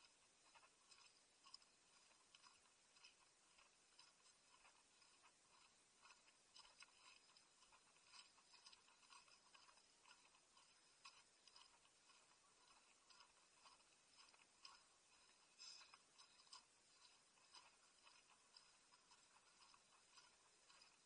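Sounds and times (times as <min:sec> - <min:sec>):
footsteps on stony path: 0:00.1 - 0:21.0.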